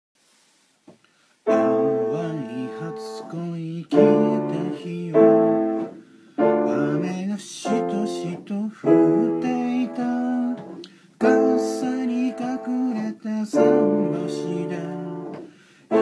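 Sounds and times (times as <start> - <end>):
piano block chords: 1.5 - 16.0.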